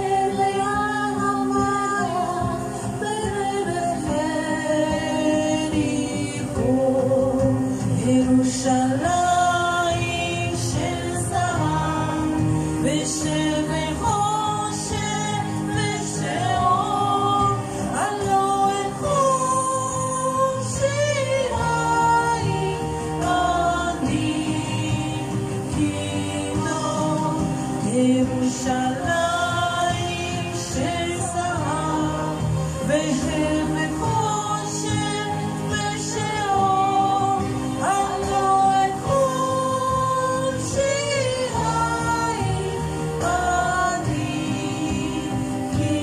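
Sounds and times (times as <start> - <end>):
woman singing into microphone: 0.0 - 46.0.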